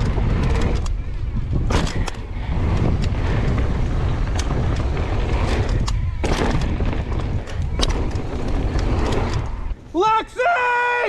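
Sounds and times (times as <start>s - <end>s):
bike knocking and rattling: 0.0s - 9.9s
wind buffeting microphone: 0.0s - 9.9s
mountain bike on dirt trail: 0.0s - 11.0s.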